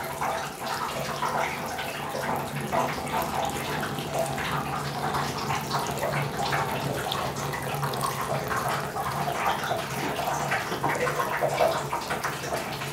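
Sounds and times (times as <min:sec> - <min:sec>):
tap water running into sink: 0:00.0 - 0:12.9.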